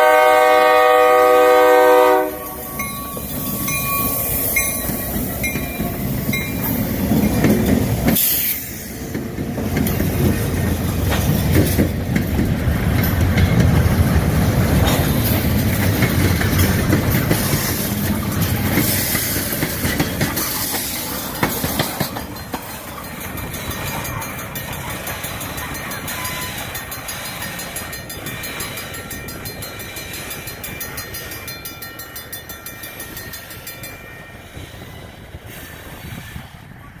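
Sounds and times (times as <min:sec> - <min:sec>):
train rumble: 0:00.0 - 0:37.0
train wheels clacking on rails: 0:00.0 - 0:37.0.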